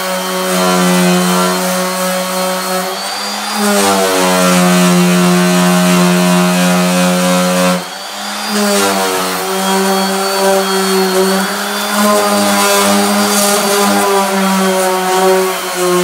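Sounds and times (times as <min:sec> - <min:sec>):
orbital sander on aluminum: 0:00.0 - 0:16.0.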